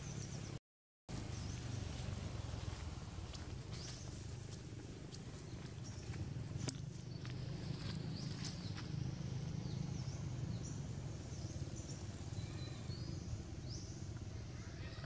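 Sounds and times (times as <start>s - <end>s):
steady low rumble: 1.1s - 15.0s.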